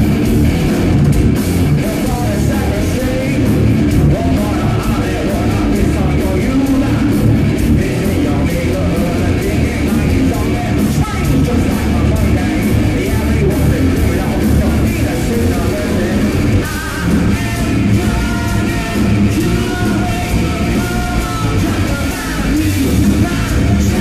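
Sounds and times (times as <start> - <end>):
bass: 0.0 - 24.0
drums: 0.0 - 24.0
electric guitars: 0.0 - 24.0
person singing: 1.8 - 24.0.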